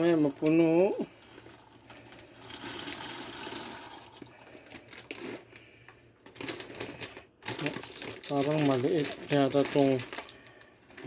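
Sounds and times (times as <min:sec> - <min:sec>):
pasta pouring from plastic bag: 0:00.0 - 0:05.6, 0:06.3 - 0:11.0.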